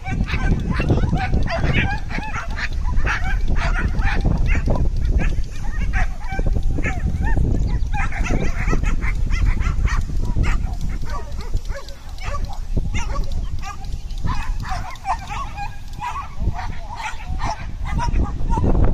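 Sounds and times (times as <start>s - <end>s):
dog barking and yipping: 0.0s - 18.8s.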